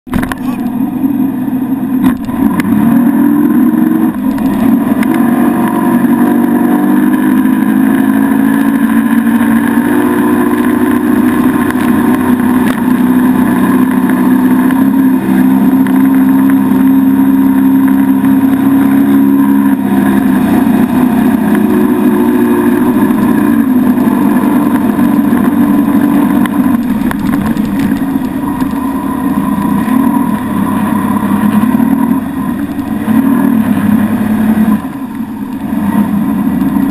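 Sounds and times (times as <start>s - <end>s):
motorboat engine drone: 0.1s - 36.9s.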